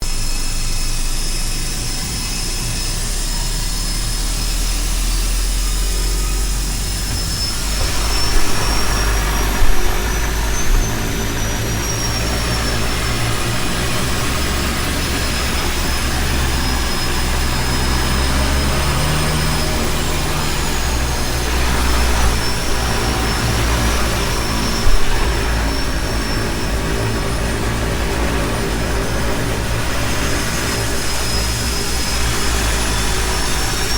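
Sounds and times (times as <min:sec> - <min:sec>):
high turbine whine: 0:00.0 - 0:33.9
turboprop engines droning: 0:00.0 - 0:33.9.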